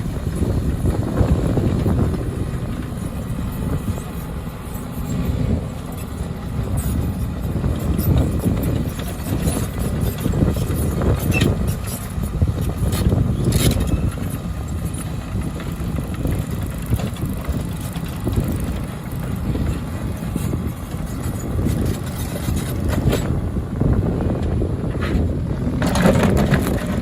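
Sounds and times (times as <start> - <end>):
heavy diesel machinery rumbling: 0.0 - 27.0.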